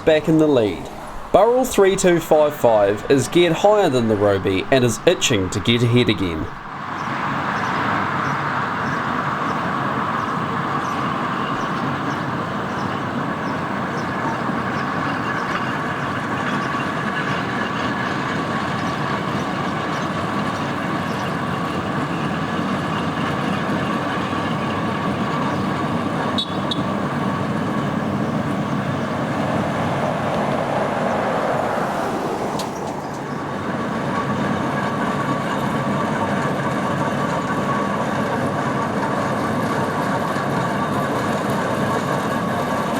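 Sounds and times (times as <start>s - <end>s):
steam traction engine running: 0.0s - 42.9s.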